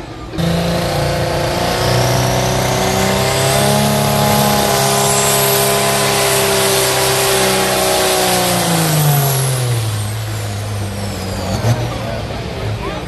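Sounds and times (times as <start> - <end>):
tractor engine running loud: 0.0 - 13.0
high climbing whine: 0.3 - 12.1.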